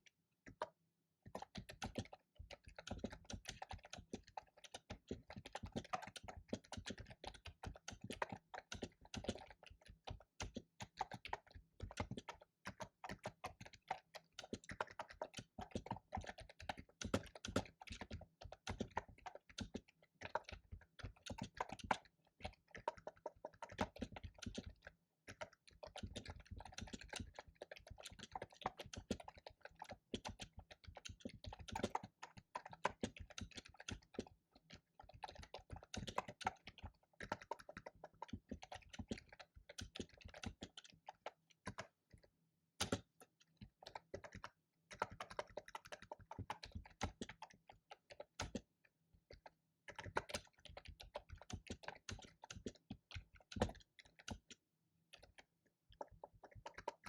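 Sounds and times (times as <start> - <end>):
fast keyboard typing: 1.3 - 48.7, 49.3 - 57.0.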